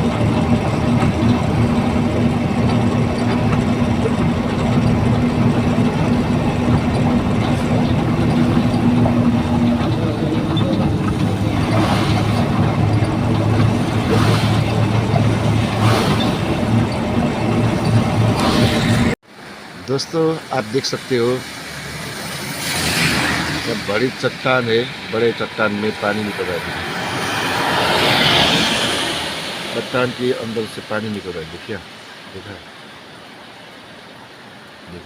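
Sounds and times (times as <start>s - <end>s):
truck engine drone: 0.0s - 31.8s
road noise: 0.0s - 35.0s.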